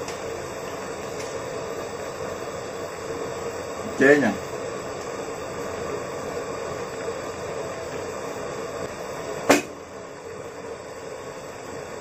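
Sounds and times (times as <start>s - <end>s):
seafood sizzling in a wok: 0.0s - 12.0s.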